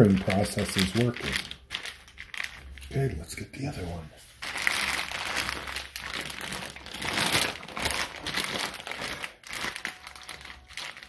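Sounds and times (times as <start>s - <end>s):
plastic bag crinkling: 0.0s - 3.1s, 4.4s - 11.0s.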